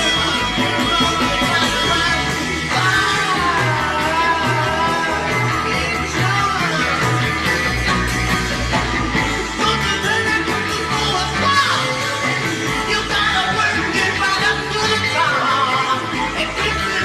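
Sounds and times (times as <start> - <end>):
garage rock band playing: 0.0 - 17.0.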